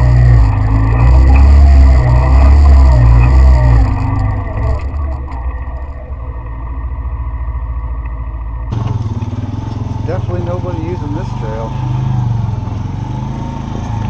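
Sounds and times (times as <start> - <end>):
off-road vehicle engine rumbling: 0.0 - 14.0.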